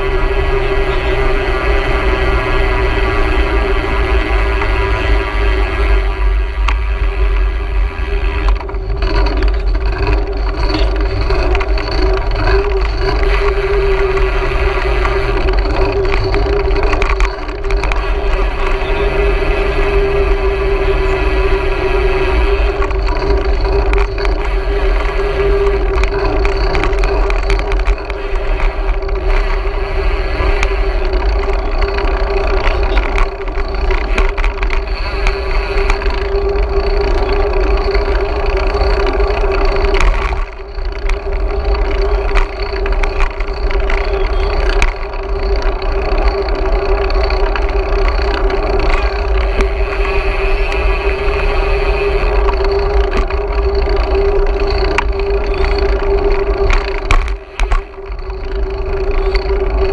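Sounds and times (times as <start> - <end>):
constant hum: 0.0 - 59.9.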